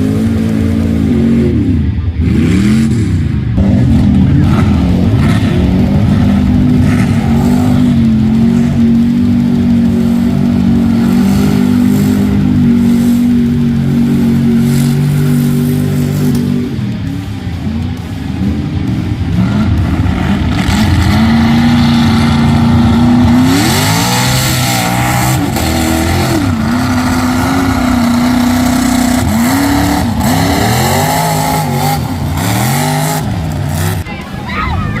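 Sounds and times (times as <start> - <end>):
truck engine revving hard: 0.0 - 34.4.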